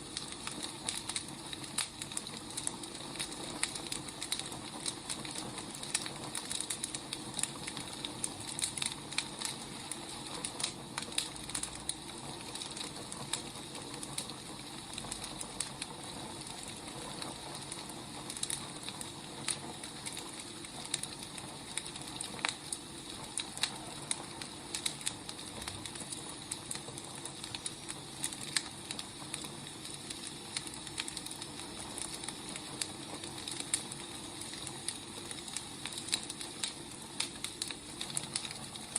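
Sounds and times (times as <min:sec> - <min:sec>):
firewood crackling and popping: 0:00.0 - 0:38.9
steady hiss: 0:00.0 - 0:38.9.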